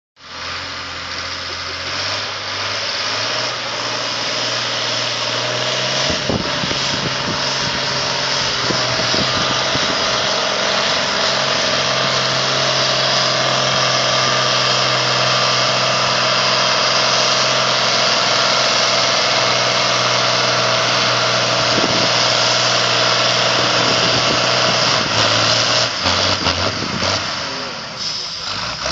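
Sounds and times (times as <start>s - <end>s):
tractor diesel engine droning: 0.2s - 28.9s.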